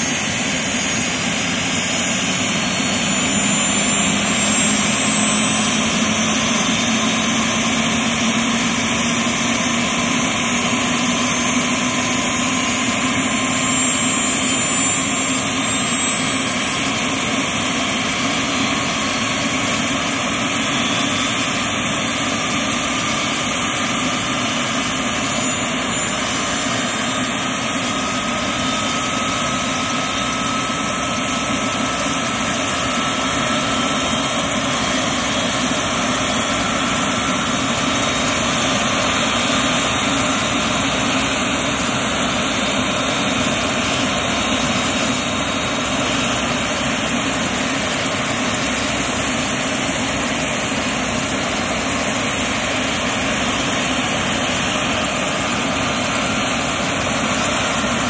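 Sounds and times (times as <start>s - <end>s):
helicopter low hum: 0.0s - 58.0s
helicopter turbine whine: 0.0s - 58.0s.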